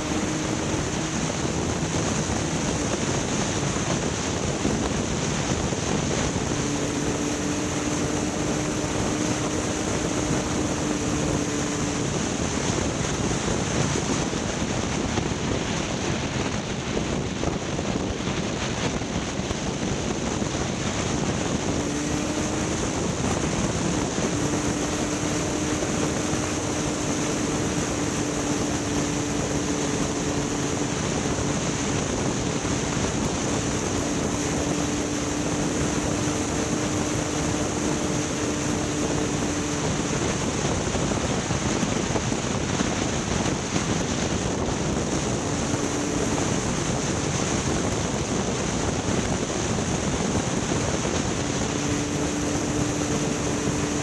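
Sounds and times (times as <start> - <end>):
running vehicle noise: 0.0 - 54.0
wind rushing: 0.0 - 54.0.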